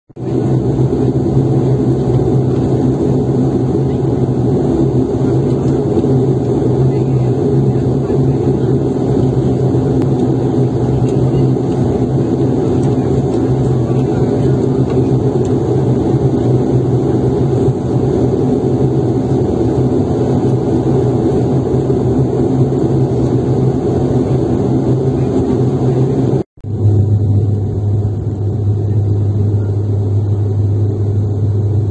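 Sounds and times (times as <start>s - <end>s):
jet engines roaring: 0.2s - 31.9s.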